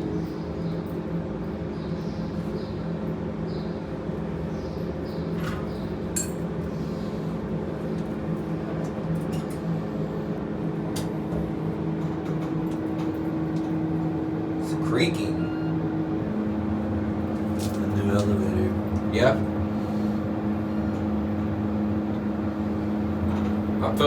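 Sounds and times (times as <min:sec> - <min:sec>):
elevator hum: 0:00.0 - 0:24.0.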